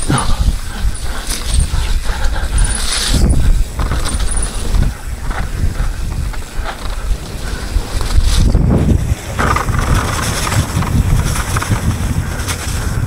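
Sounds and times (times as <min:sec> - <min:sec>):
bike knocking and rattling: 0:00.0 - 0:13.0
bike tyres rumbling on dirt trail: 0:00.0 - 0:13.0
wind on microphone: 0:00.0 - 0:13.0.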